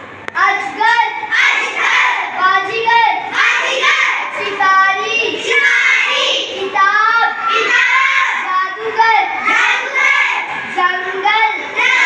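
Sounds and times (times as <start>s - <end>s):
child reading aloud: 0.4s - 12.0s.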